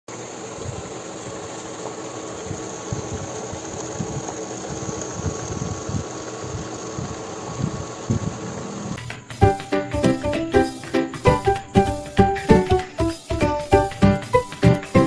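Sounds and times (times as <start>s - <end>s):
steady hum: 0.1s - 15.0s.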